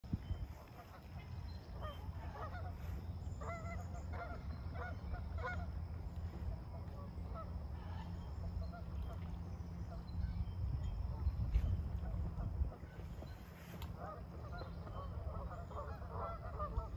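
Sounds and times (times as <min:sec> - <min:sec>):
geese honking: 0:00.5 - 0:10.1, 0:12.0 - 0:16.9.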